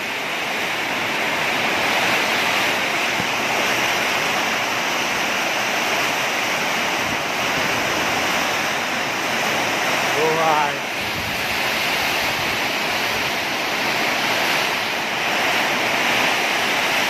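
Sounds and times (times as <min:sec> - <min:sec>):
heavy rain: 0:00.0 - 0:17.0
strong wind: 0:00.0 - 0:17.0.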